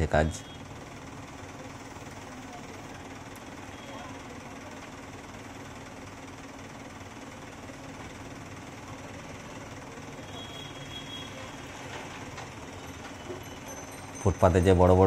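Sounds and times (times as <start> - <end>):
diesel engines idling: 0.0 - 15.0.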